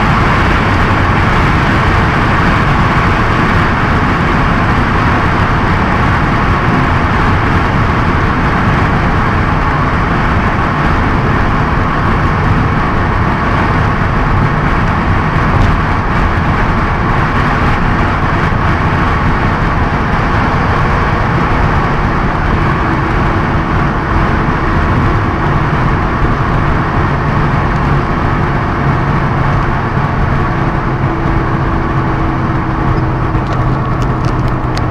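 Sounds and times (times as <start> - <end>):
car engine running: 0.0 - 34.9
wind and tyre noise: 0.0 - 34.9.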